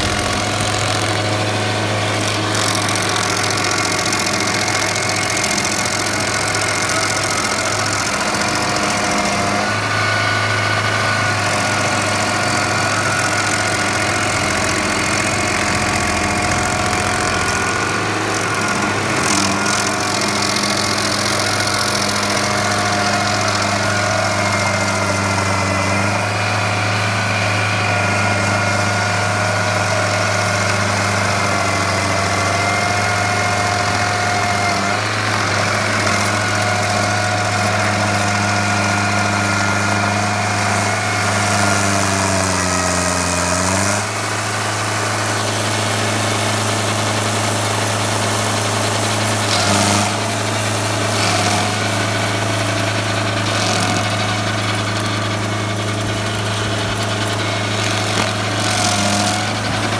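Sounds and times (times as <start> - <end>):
cutter wheel grinding stump: 0.0 - 59.9
diesel engine running hard: 0.0 - 59.9.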